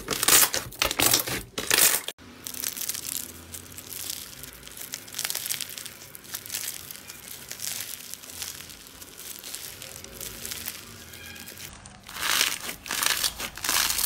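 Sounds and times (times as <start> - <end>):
slime beads crackling and popping: 0.0 - 14.0.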